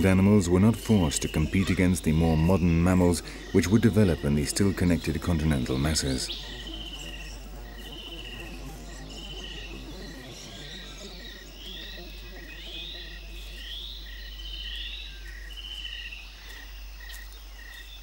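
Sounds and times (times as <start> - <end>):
rising and falling calls: 0.0 - 16.1
evenly spaced animal chirps: 0.0 - 18.0.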